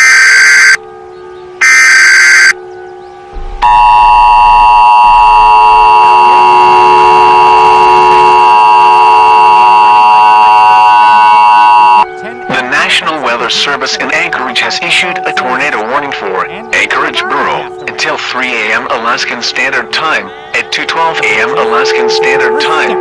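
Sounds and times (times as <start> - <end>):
data bursts: 0.0 - 0.8, 1.6 - 2.6, 3.4 - 23.0
two-tone attention signal: 0.0 - 0.8, 1.6 - 2.6, 3.3 - 23.0.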